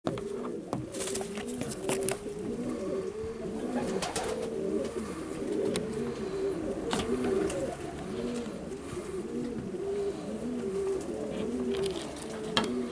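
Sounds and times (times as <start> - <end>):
pigeons cooing: 0.1 - 12.9.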